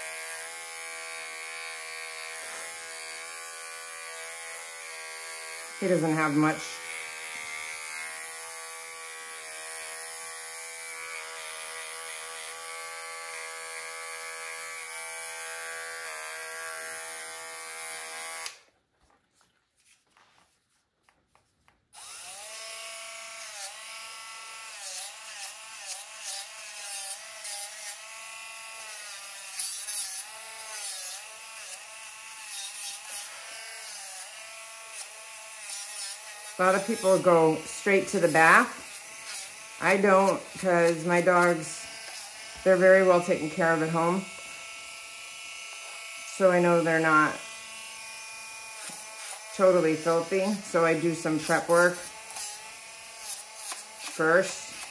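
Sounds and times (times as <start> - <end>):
nail grinder whirring: 0.0 - 18.8, 21.9 - 54.9
pet trimmer buzzing: 0.0 - 18.8, 21.9 - 54.9.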